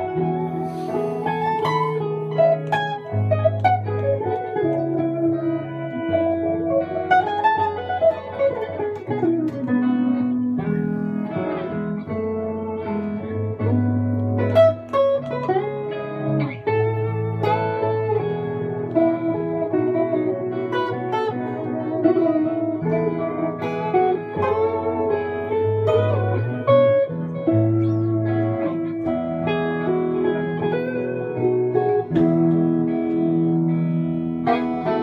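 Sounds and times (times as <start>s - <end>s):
electric guitar melody: 0.0s - 35.0s.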